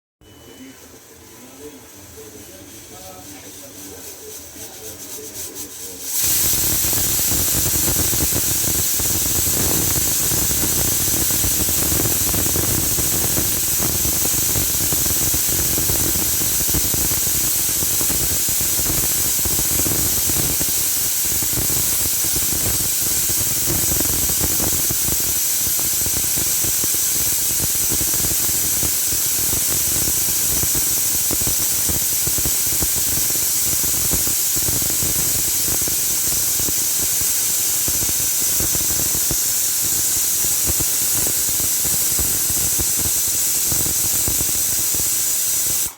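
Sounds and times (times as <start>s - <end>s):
pressure cooker hissing steam: 0.5s - 45.9s.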